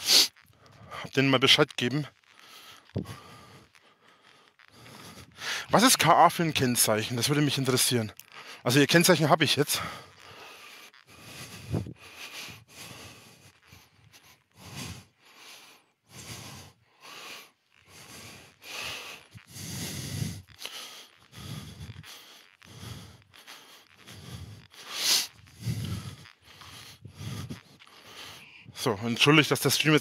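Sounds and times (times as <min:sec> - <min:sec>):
person breathing heavily: 0:00.0 - 0:01.1, 0:02.2 - 0:06.2, 0:08.2 - 0:08.7, 0:09.7 - 0:29.1.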